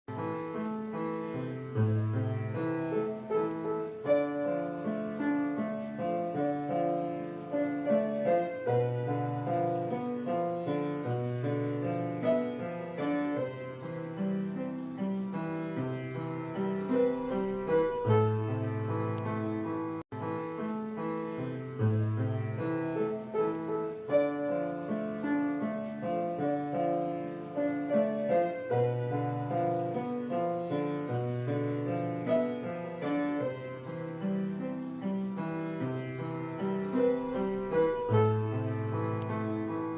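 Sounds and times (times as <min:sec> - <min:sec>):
piano music: 0:00.1 - 0:39.9.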